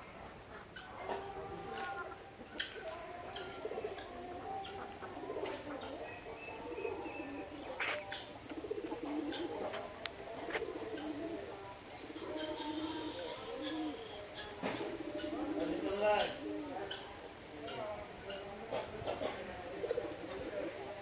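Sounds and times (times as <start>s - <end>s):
birds cooing: 0.0s - 21.0s.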